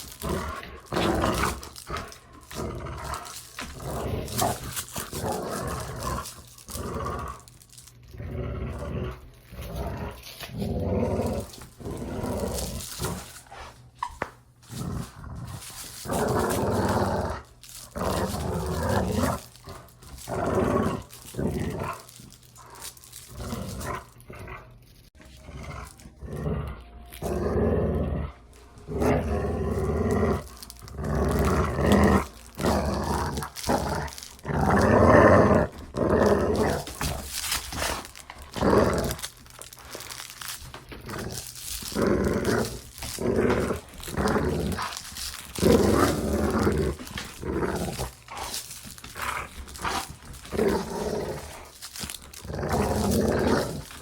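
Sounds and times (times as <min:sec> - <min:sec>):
dog play-growling: 0:00.0 - 0:54.0.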